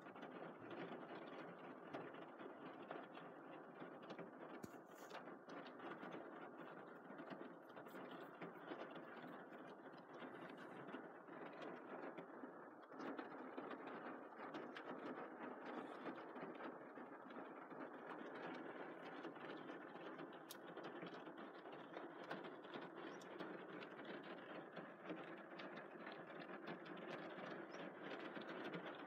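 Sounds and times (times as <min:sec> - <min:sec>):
heavy rain on vehicle roof: 0:00.0 - 0:29.0.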